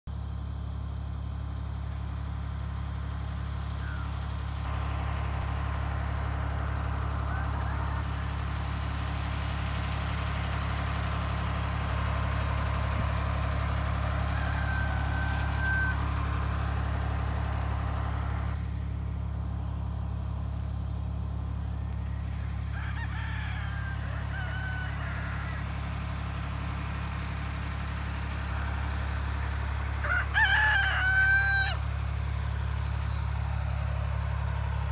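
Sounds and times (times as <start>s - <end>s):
chickens clucking and calling: 3.7s - 4.2s, 5.6s - 33.7s.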